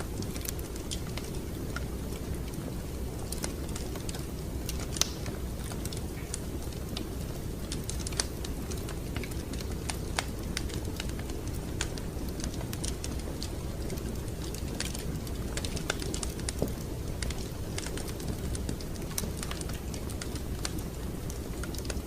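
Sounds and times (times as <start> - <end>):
fire pops and snaps: 0.0 - 22.0
wood fire crackling: 0.0 - 22.0.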